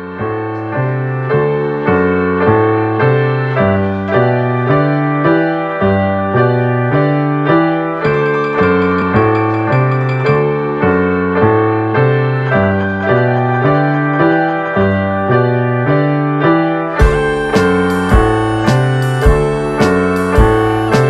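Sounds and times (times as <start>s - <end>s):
piano playing chords: 0.0s - 21.0s.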